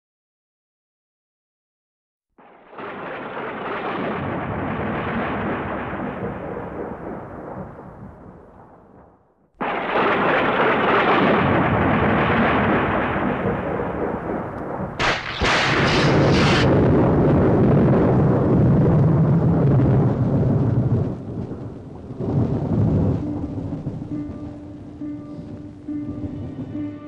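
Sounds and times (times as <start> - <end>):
crackling thunderclap: 2.4 - 27.0
thunder rumble: 2.4 - 27.0.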